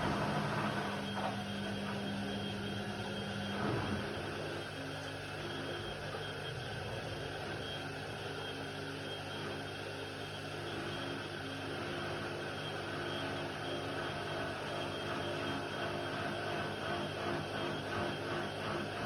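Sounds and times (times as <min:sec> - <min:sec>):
washer-dryer motor hum: 0:00.0 - 0:19.0.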